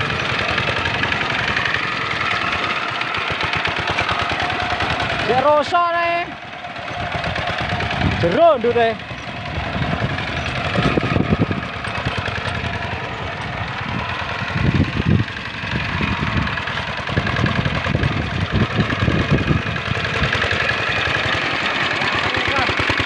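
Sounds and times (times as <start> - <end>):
diesel engine chugging: 0.0 - 23.0.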